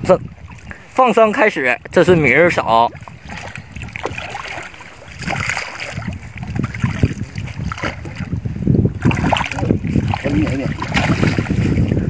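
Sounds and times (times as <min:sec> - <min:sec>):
water splashing in shallows: 0:00.0 - 0:12.0
wind rumbling on microphone: 0:00.0 - 0:12.0.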